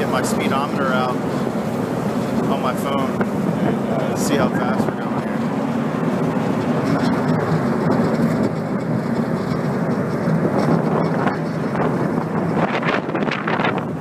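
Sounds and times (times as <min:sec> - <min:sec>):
ferry engines droning: 0:00.0 - 0:14.0
wind buffeting microphone: 0:00.0 - 0:14.0.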